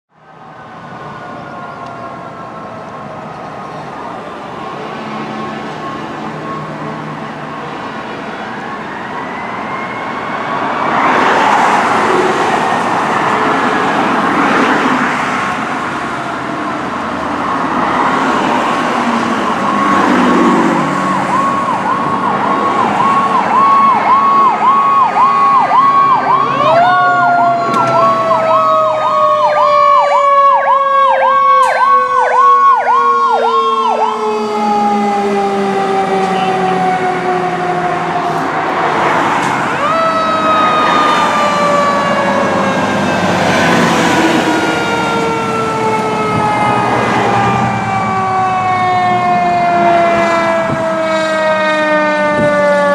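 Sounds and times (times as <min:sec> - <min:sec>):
fire truck siren pulsing: 0:00.1 - 0:52.9
rising and falling siren: 0:00.1 - 0:52.9.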